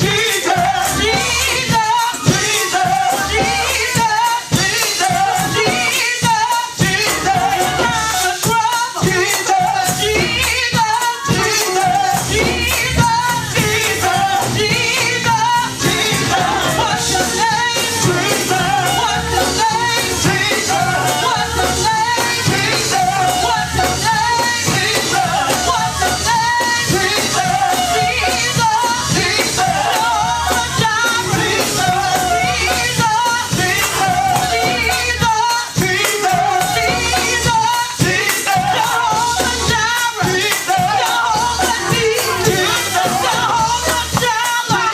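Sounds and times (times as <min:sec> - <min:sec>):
band playing: 0:00.0 - 0:44.9
fast percussion beat: 0:00.0 - 0:44.9
voices singing gospel: 0:00.0 - 0:44.9.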